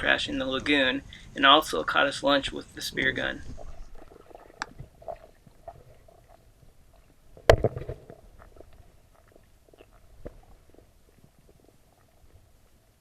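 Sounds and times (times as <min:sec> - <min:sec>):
underwater clicks and crackles: 0:00.0 - 0:13.0
underwater low hum: 0:00.0 - 0:13.0.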